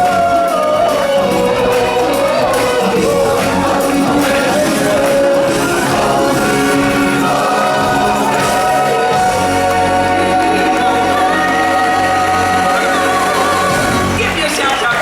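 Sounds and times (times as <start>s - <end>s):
choir singing: 0.0s - 14.4s
band playing: 0.0s - 15.0s.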